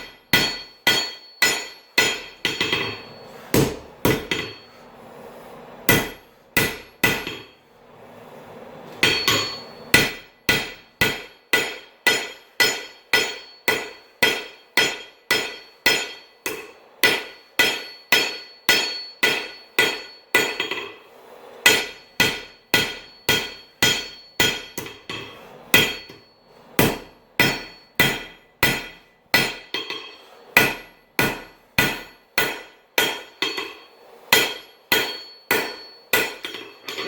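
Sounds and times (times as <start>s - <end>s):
hammer striking hot steel on anvil: 0.0s - 4.8s, 5.8s - 7.6s, 9.0s - 37.0s.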